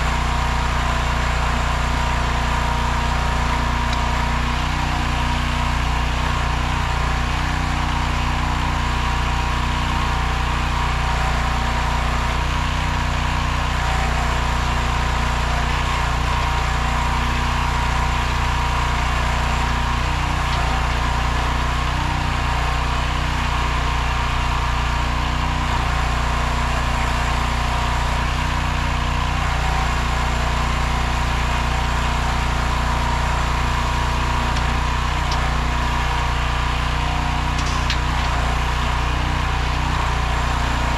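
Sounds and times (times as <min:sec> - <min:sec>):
backhoe engine running steadily: 0:00.0 - 0:40.9.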